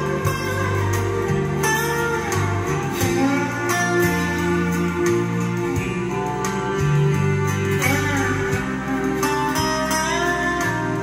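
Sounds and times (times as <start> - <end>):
guitar music through speakers: 0.0 - 11.0.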